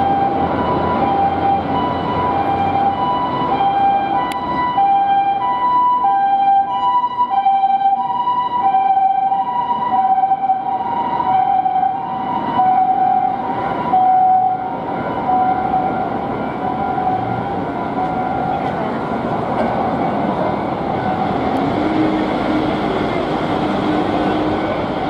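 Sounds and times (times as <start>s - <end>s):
road traffic noise: 0.0s - 25.0s
two-tone ambulance siren: 0.0s - 25.0s.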